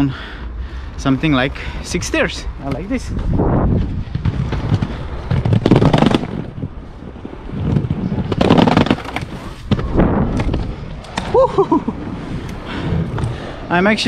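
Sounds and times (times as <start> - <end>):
skate wheels rumbling: 0.7 - 14.0
wind on microphone: 1.0 - 14.0.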